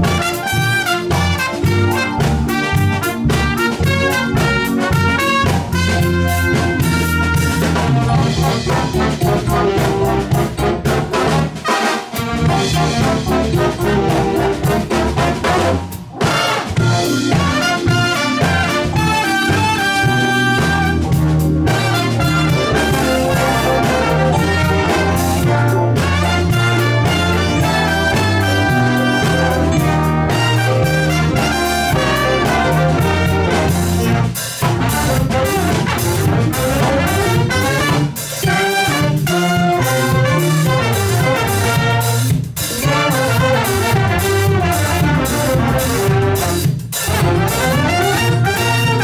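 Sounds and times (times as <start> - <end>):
jazz big band playing: 0.0 - 49.0.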